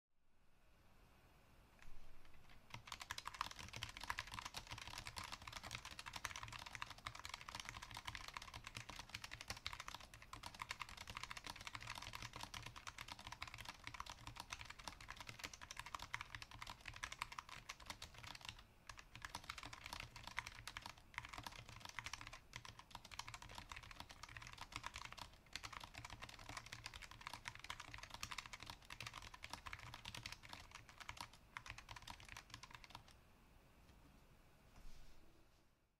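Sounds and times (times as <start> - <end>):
fast typing on mechanical keyboard: 2.2 - 33.2.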